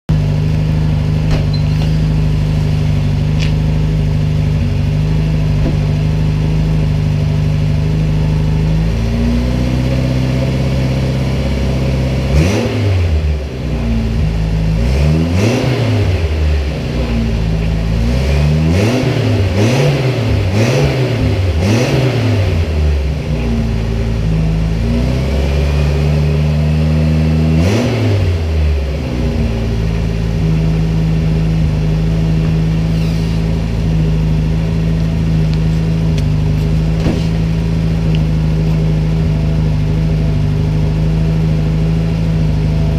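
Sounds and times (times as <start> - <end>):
car engine idling and revving: 0.1 - 42.9.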